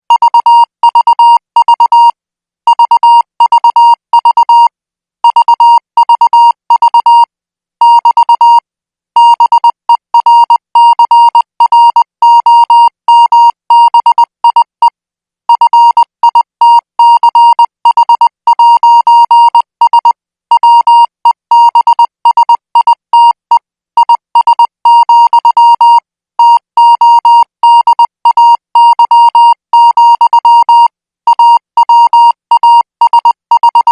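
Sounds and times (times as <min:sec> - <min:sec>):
morse code beeps: 0:00.1 - 0:02.1, 0:02.7 - 0:04.7, 0:05.3 - 0:08.6, 0:09.2 - 0:14.9, 0:15.5 - 0:23.4, 0:24.0 - 0:33.9.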